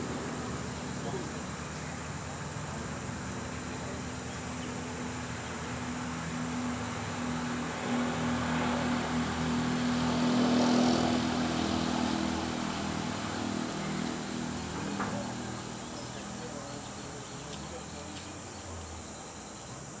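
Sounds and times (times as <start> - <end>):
insects buzzing: 0.0 - 20.0
vehicle engine hum: 0.0 - 20.0.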